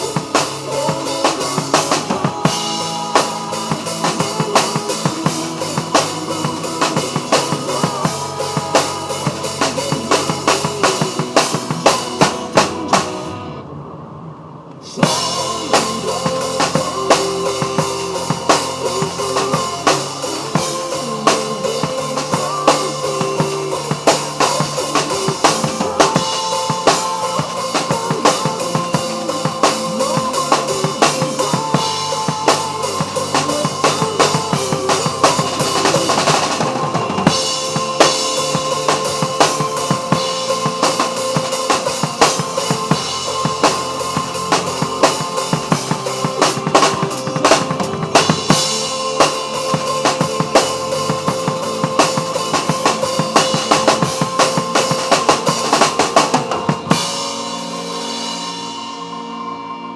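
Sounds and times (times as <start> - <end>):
drum kit played busily: 0.0 - 13.6, 14.8 - 59.9
musical backing of held tones: 0.0 - 13.7, 15.0 - 59.9.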